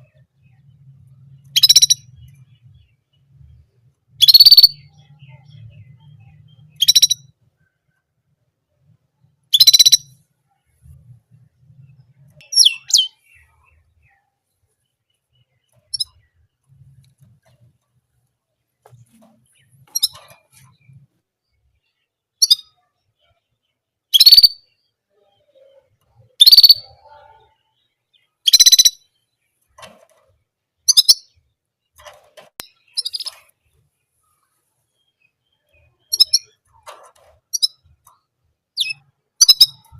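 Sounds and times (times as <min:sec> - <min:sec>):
canary chirping: 0:00.0 - 0:08.1, 0:08.8 - 0:39.9.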